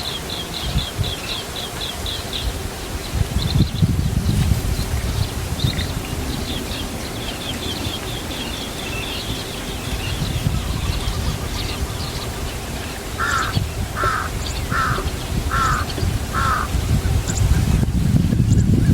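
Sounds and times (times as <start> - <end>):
birds chirping: 0.0 - 18.9.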